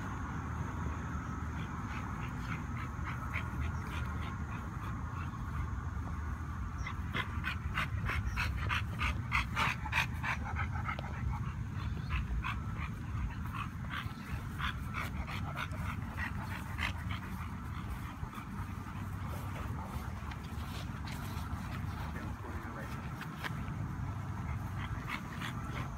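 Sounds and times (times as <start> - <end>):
steady low rumble: 0.0 - 25.9
dog panting: 1.1 - 25.9.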